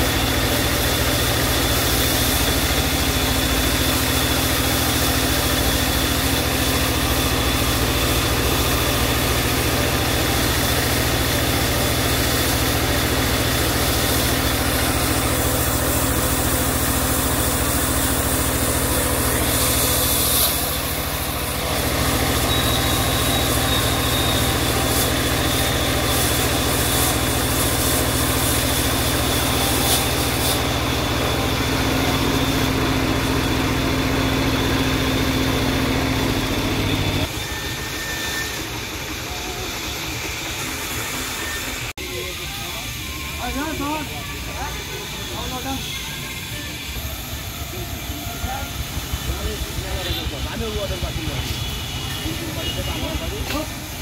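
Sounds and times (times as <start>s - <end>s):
portable sawmill droning: 0.0s - 54.0s.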